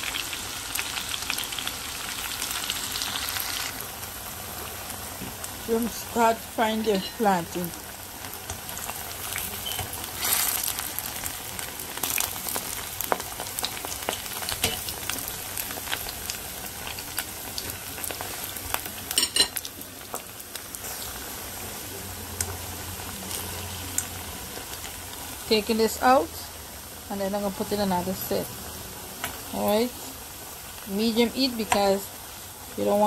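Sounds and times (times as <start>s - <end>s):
deep-frying sizzle with pops: 0.0s - 33.0s.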